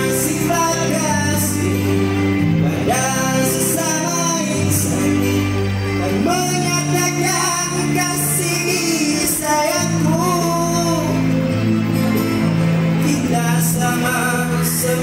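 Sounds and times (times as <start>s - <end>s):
man singing into a microphone: 0.0s - 11.7s, 12.9s - 15.0s
electronic keyboard backing: 0.0s - 15.0s
sustained bass line: 0.0s - 15.0s.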